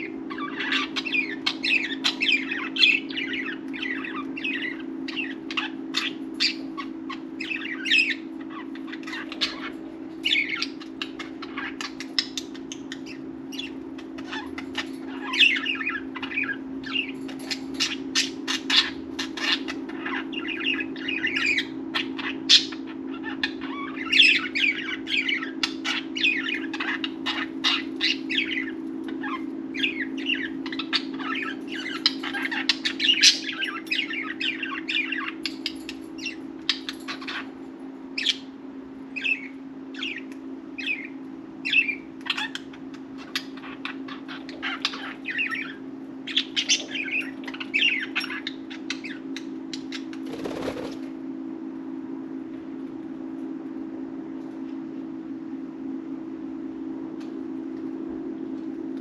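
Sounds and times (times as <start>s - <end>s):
budgerigars chirping: 0.0s - 37.5s, 38.2s - 38.5s, 39.1s - 50.9s
steady low hum: 0.0s - 59.0s.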